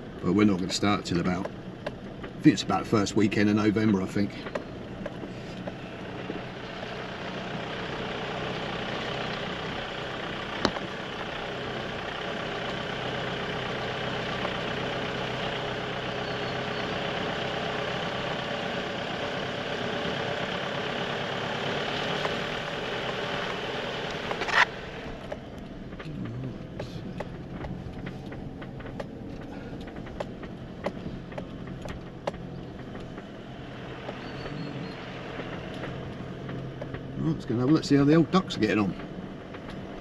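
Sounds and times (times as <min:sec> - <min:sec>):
car engine hum: 0:00.0 - 0:40.0.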